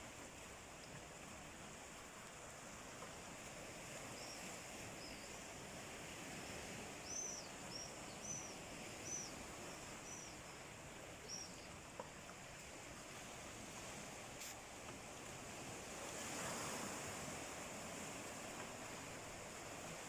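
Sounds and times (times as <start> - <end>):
faint sea surf: 0.0 - 20.0.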